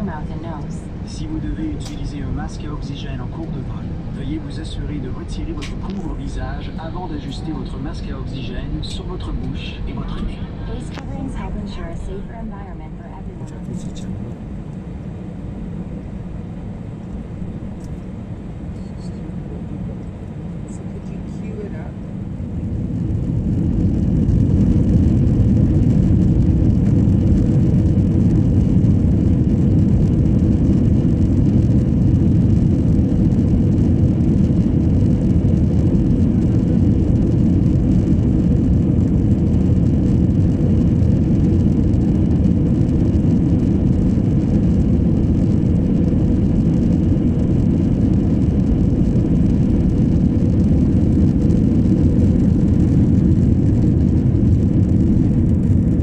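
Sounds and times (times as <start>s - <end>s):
faint steady hum: 0.0s - 56.0s
jet engines roaring: 0.0s - 56.0s
wheels rumbling on runway: 0.0s - 56.0s.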